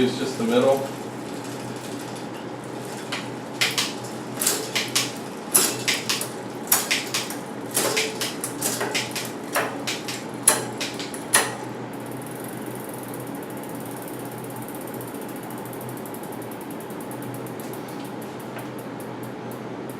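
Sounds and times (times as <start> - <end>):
bike chain and derailleur clicking: 0.0 - 19.6.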